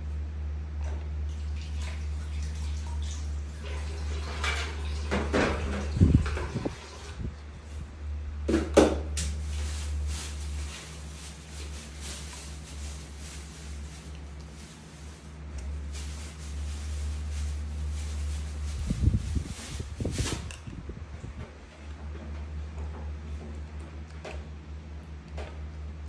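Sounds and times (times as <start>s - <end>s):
steady low hum: 5.0s - 26.0s.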